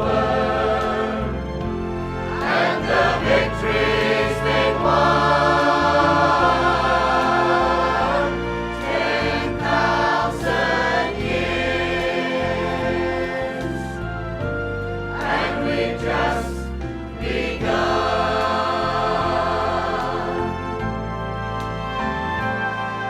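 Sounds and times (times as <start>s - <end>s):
choir singing a hymn: 0.0s - 22.9s
accompanying music: 0.0s - 23.0s.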